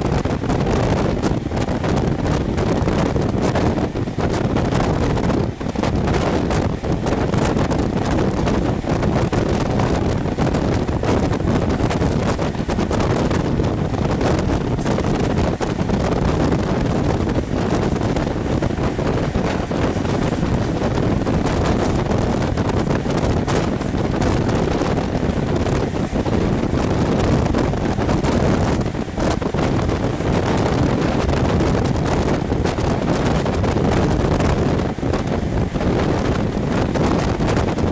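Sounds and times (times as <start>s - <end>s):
train rumbling along track: 0.0s - 37.9s
wind buffeting microphone: 0.0s - 37.9s.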